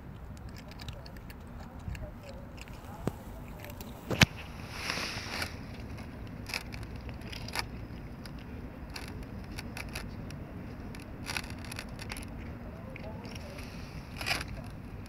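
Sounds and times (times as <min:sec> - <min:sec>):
cats crunching dry kibble: 0:00.0 - 0:15.0
steady low rumble: 0:00.0 - 0:15.0.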